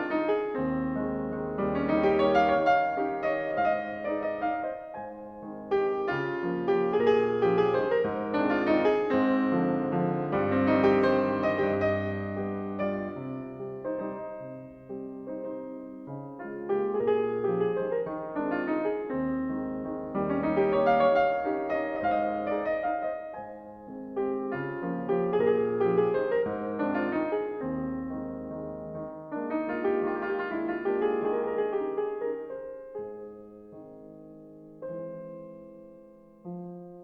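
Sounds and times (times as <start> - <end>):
slow piano music: 0.0 - 37.0.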